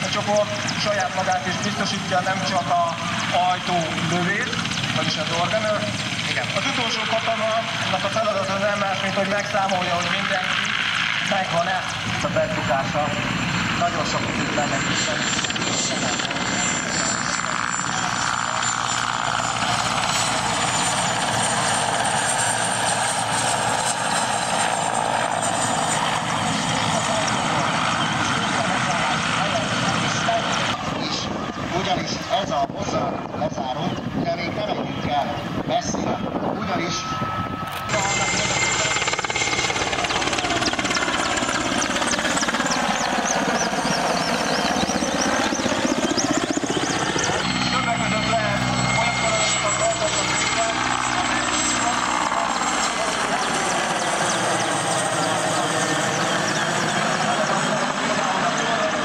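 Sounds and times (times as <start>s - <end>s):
helicopter flying past: 0.0s - 59.0s.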